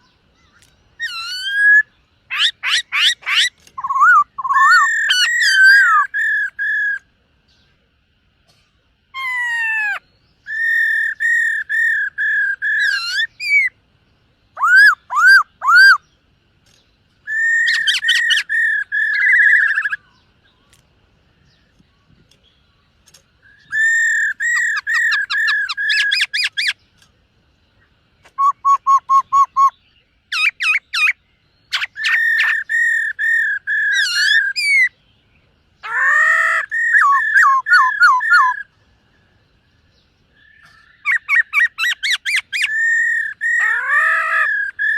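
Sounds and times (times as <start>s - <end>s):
bird whistled song: 0.0s - 7.8s, 9.1s - 13.8s, 14.4s - 27.1s, 27.7s - 44.9s.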